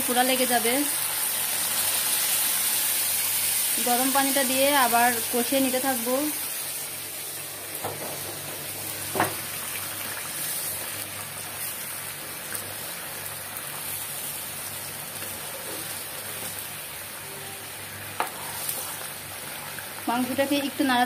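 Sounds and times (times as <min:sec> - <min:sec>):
curry sizzling and bubbling: 0:00.0 - 0:21.0.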